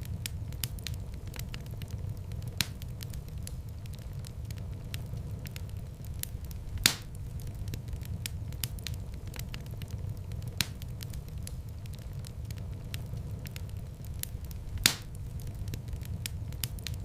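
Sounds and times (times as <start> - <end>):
loud fire pops: 0.0 - 17.0
low rumble of flames: 0.0 - 17.0
wood fire crackling: 0.0 - 17.0.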